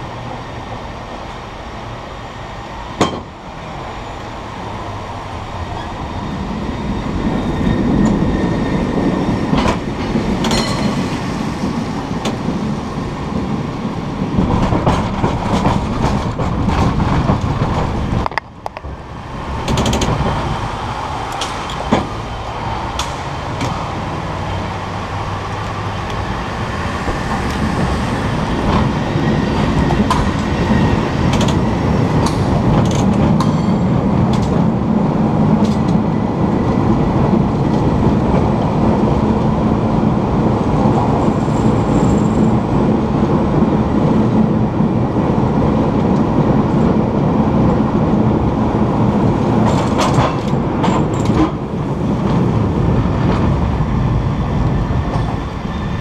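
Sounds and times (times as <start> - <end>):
cable car rumble and clatter: 0.0 - 56.0.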